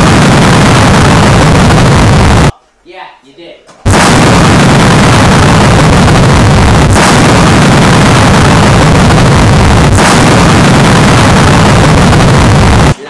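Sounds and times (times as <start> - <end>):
harsh distorted noise: 0.0 - 2.6, 3.9 - 13.0.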